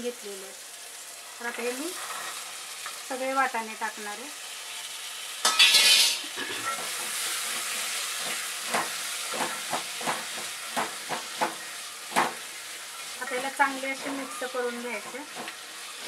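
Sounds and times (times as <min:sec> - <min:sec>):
peas sizzling in a pot: 0:00.0 - 0:16.0.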